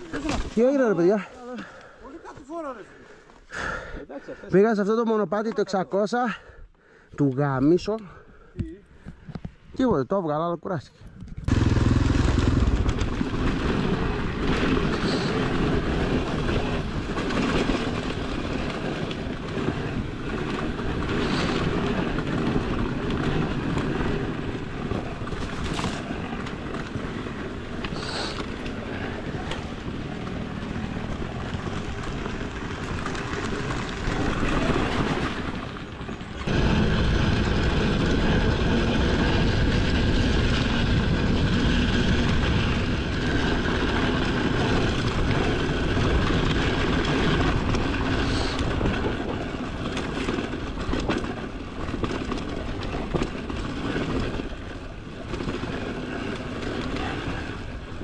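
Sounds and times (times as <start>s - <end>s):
dirt bike engine running: 11.4s - 58.0s.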